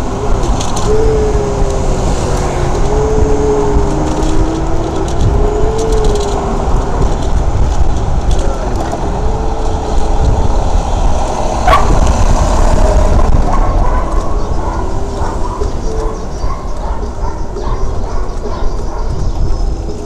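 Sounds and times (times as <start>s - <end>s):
street traffic: 0.0s - 20.0s
wind rumbling on microphone: 0.0s - 20.0s.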